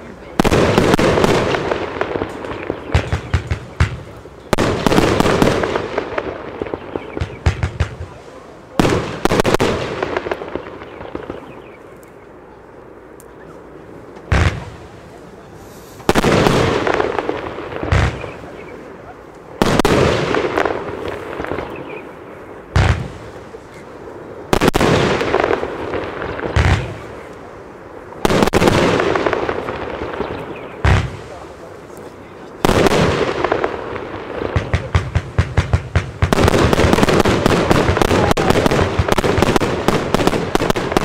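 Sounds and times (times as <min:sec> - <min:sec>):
firework bangs: 0:00.0 - 0:11.8, 0:14.1 - 0:41.0.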